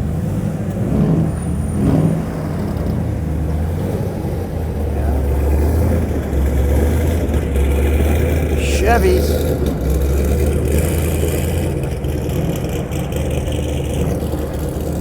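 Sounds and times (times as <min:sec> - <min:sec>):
cars driving past rumbling: 0:00.0 - 0:08.6, 0:09.2 - 0:15.0.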